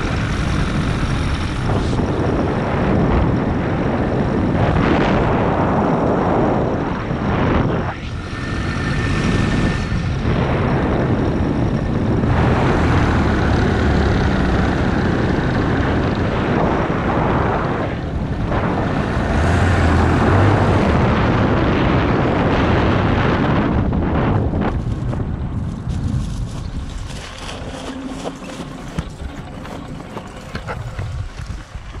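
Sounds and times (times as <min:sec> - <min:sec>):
propeller engine: 0:00.0 - 0:32.0
wind on microphone: 0:00.0 - 0:32.0.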